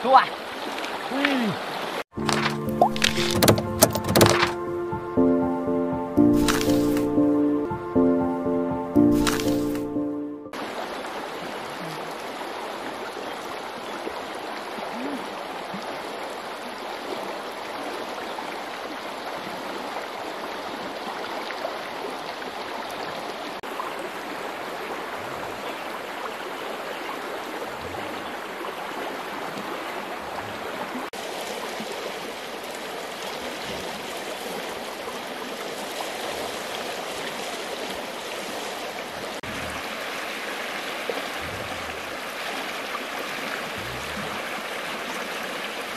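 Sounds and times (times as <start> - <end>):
river water rushing: 0.0 - 5.1, 10.5 - 45.9.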